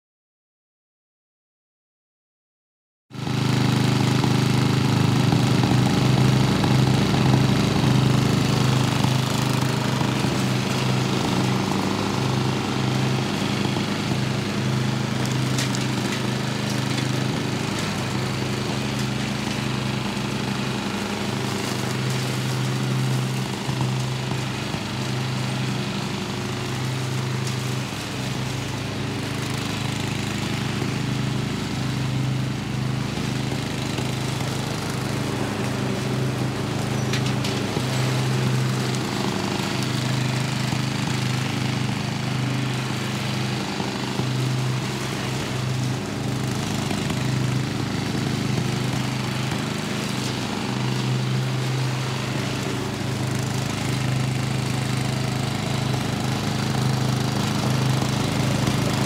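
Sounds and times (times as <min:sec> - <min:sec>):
riding lawn mower engine: 0:03.1 - 0:59.0.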